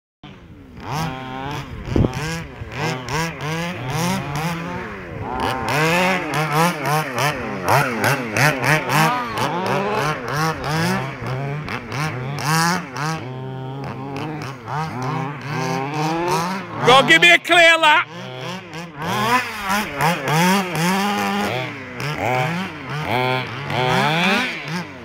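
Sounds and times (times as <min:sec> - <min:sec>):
two-stroke engine revving: 0:00.2 - 0:25.0.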